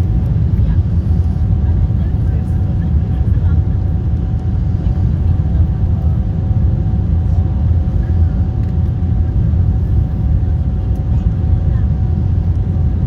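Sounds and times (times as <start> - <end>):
airliner rumble: 0.0 - 13.0.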